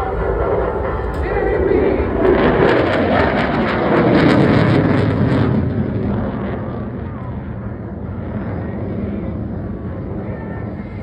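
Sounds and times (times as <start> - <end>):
jet fighter passing: 0.0 - 11.0.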